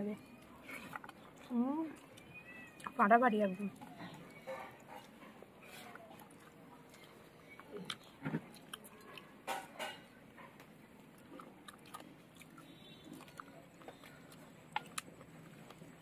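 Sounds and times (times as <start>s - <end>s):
chewing food: 0.2s - 16.0s.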